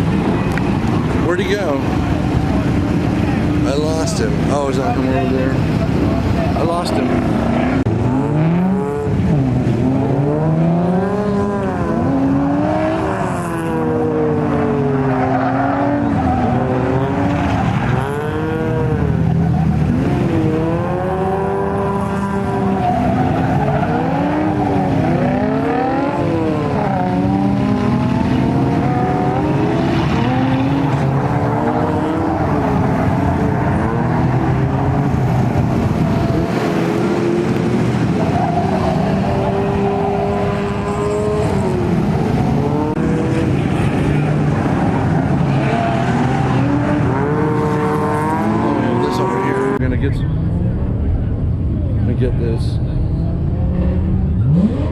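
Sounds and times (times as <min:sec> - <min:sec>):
car engine revving: 0:00.0 - 0:54.9
engines running steadily: 0:00.0 - 0:54.9.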